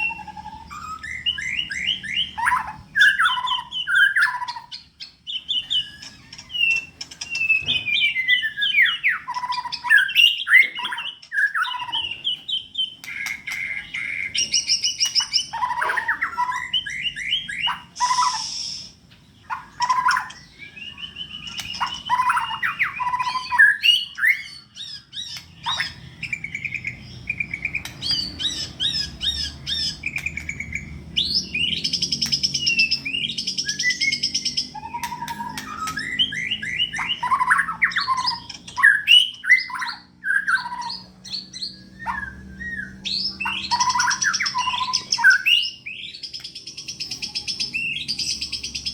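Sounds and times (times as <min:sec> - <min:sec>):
songbird singing whistles and trills: 0:00.0 - 0:48.9.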